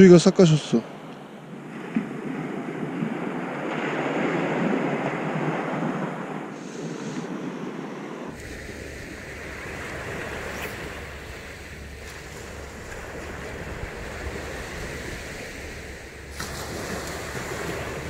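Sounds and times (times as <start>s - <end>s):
surf waves on sandy beach: 0.6s - 18.0s
wind rumble on microphone: 1.4s - 18.0s.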